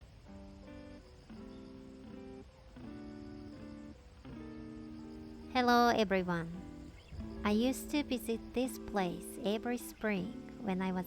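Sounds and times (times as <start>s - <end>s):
acoustic guitar soft chords: 0.0s - 11.0s.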